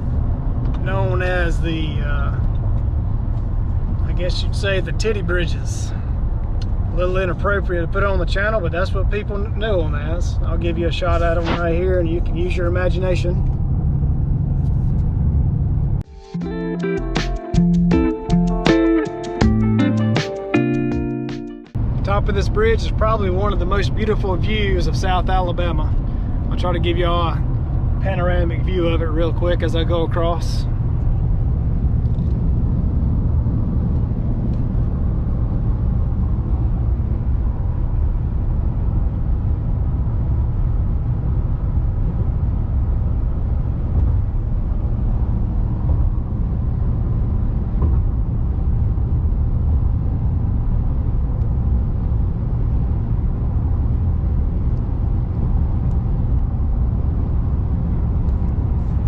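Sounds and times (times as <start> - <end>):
car road and engine rumble: 0.0 - 16.1, 20.8 - 59.0.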